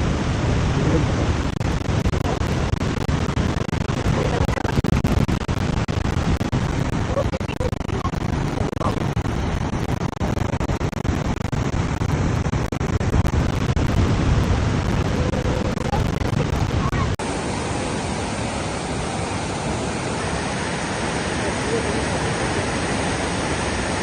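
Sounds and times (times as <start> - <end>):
waterfall rushing: 0.0 - 24.0
wind buffeting microphone: 0.0 - 24.0.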